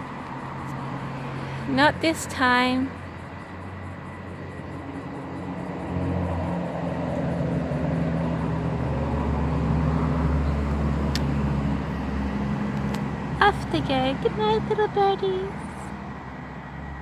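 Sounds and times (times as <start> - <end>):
vehicle engine hum: 0.0 - 17.0.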